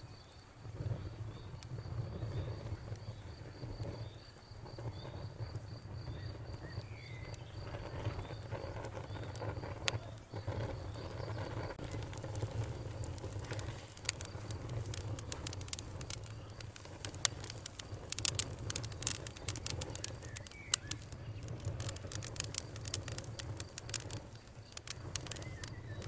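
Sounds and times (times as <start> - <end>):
cricket chirping: 0.0 - 26.0
wood fire crackling: 0.0 - 26.0.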